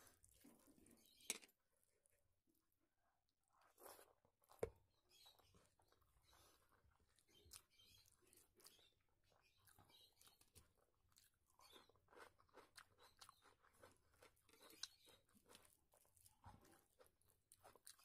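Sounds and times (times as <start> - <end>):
chewing food: 0.0 - 1.3, 3.0 - 18.0
fingers squishing rice: 3.4 - 18.0.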